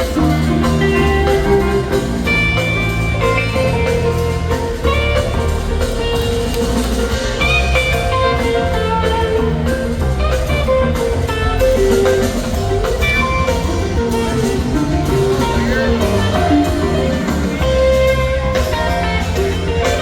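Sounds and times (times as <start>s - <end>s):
bass and drums: 0.0s - 20.0s
lead guitar: 0.0s - 20.0s.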